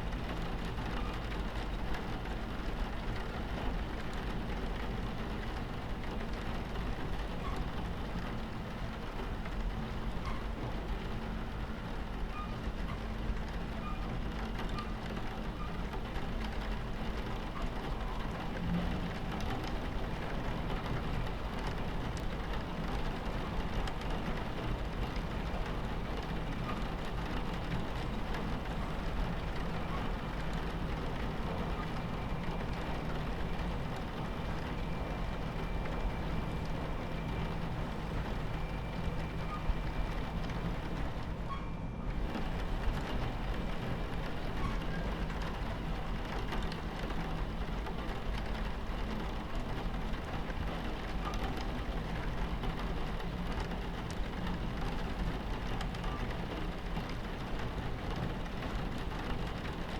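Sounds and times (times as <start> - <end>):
rain on a train window: 0.0 - 59.9
train rumbling on tracks: 0.0 - 59.9.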